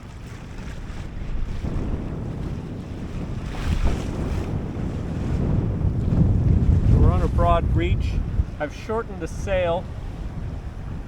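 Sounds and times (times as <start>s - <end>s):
waves washing past boat: 0.0s - 11.0s
wind buffeting microphone: 0.0s - 11.0s.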